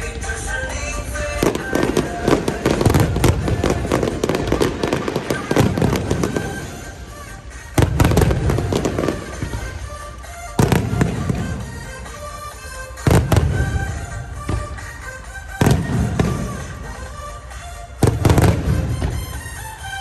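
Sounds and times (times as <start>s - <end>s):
music: 0.0s - 20.0s
fireworks booming and crackling: 0.8s - 20.0s.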